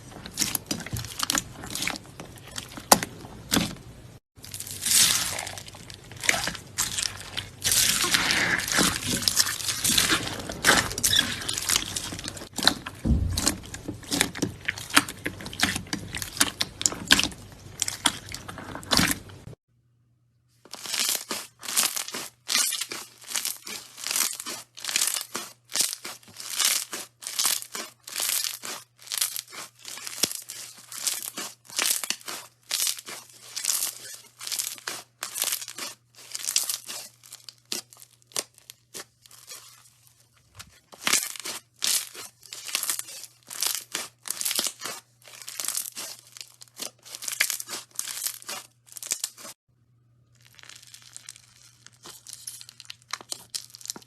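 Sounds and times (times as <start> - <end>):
hands squeezing crackly slime: 4.4 - 19.4, 20.7 - 49.6, 50.3 - 54.0.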